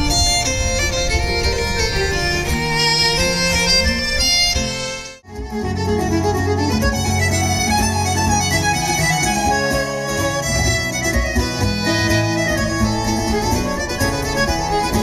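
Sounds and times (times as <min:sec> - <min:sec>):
held accordion notes: 0:00.0 - 0:15.0
violin melody: 0:00.0 - 0:15.0.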